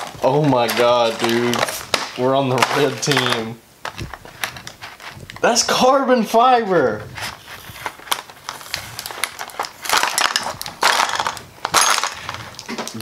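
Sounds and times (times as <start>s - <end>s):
plastic parts snapping: 0.0s - 5.4s, 7.8s - 13.0s
plastic packaging crinkling: 0.0s - 5.6s, 7.0s - 13.0s.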